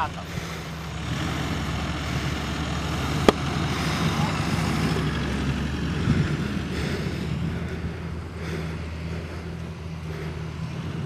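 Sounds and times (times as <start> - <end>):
pickup truck engine hum: 0.0 - 11.0.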